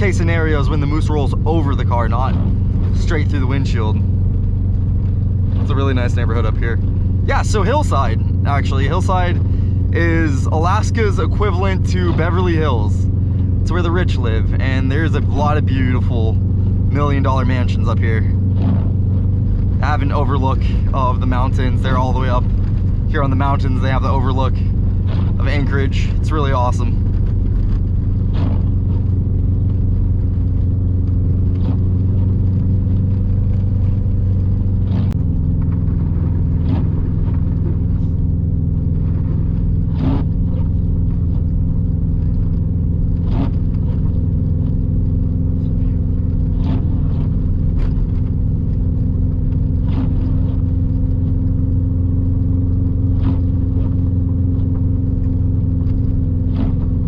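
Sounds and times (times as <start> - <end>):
car engine drone in cabin: 0.0 - 57.0
tires on snowy road: 0.0 - 57.0.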